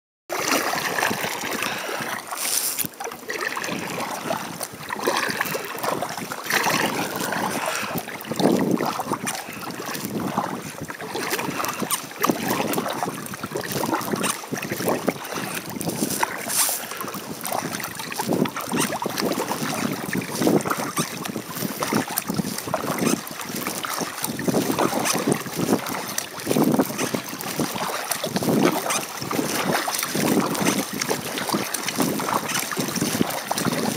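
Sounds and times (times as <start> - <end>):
paddle splashing in water: 0.3 - 33.9
wind buffeting microphone: 3.6 - 33.9.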